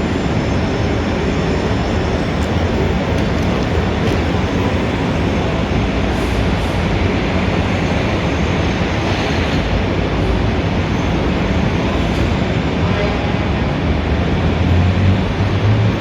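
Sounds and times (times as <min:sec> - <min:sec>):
heavy street traffic rumble: 0:00.0 - 0:16.0.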